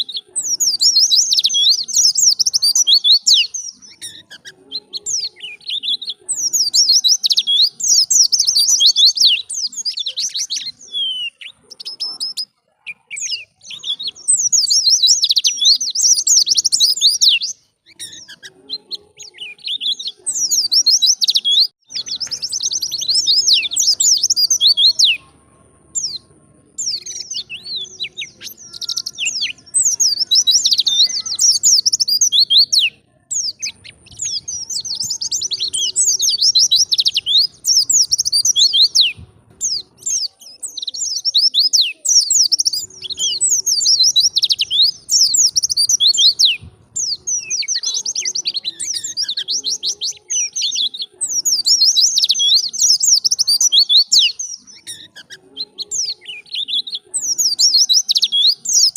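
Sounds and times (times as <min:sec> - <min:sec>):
bird twittering song: 0:00.0 - 0:58.9.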